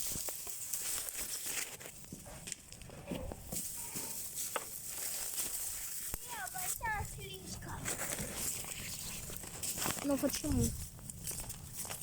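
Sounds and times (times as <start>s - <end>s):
campfire crackling: 0.0s - 12.0s
dry grass and sticks rustling: 0.0s - 12.0s.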